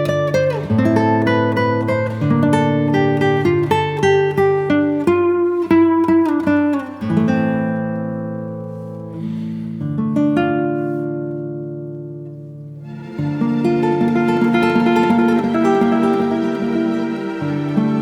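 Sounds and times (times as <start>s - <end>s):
acoustic guitar melody: 0.0s - 18.0s.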